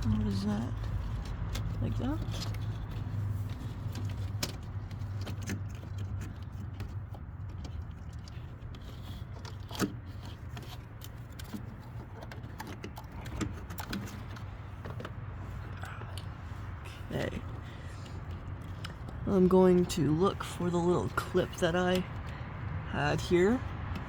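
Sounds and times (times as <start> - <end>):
low outdoor background hum: 0.0 - 24.0.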